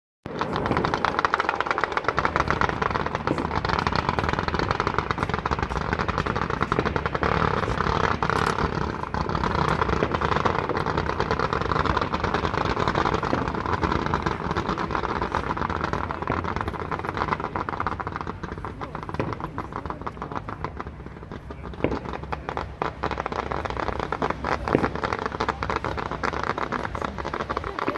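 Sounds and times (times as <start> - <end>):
fireworks crackling: 0.2 - 27.9.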